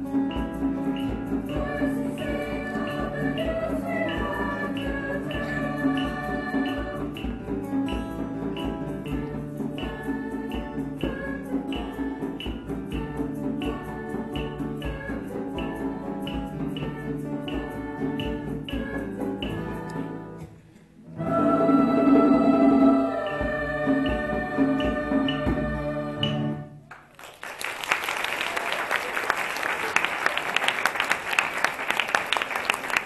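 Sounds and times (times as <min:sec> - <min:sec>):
music with steady beat: 0:00.0 - 0:26.8.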